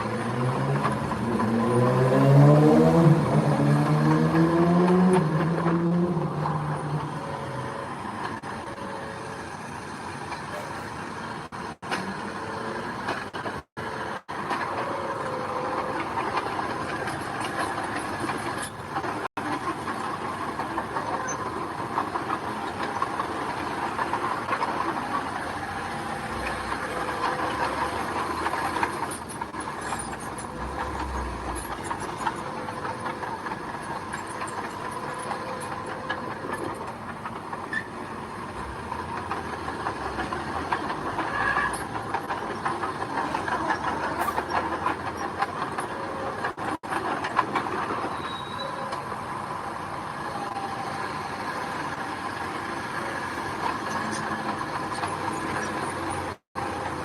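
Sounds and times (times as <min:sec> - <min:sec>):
bulldozer clattering: 0:00.0 - 0:57.0
bulldozer diesel engine: 0:00.0 - 0:57.0.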